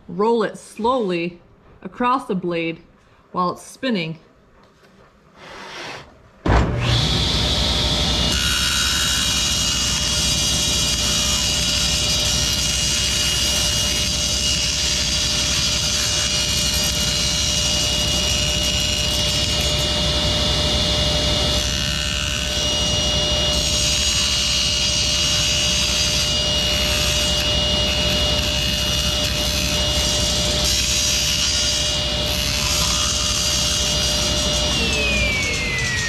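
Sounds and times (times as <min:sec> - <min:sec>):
table saw whining: 0:05.4 - 0:36.0.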